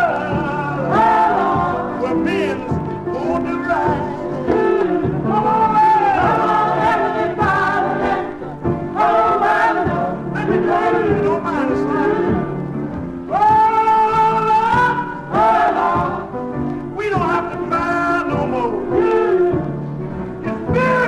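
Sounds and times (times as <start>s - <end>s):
gospel choir singing: 0.0s - 21.0s
instrumental backing with beat: 0.0s - 21.0s.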